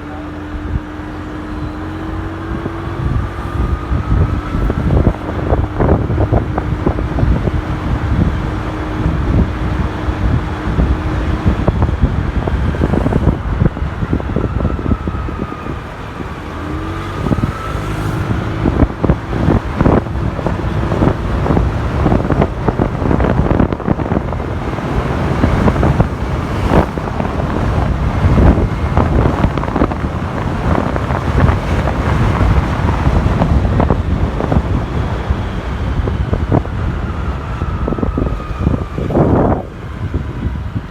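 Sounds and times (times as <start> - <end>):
road noise: 0.0 - 40.9
wind buffeting microphone: 0.4 - 40.9.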